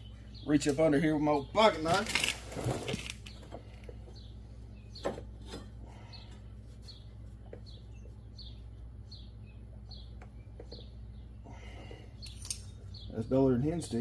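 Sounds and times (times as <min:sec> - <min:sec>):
bird chirping: 0:00.0 - 0:02.0, 0:02.8 - 0:05.3, 0:05.9 - 0:14.0
steady low hum: 0:00.0 - 0:14.0.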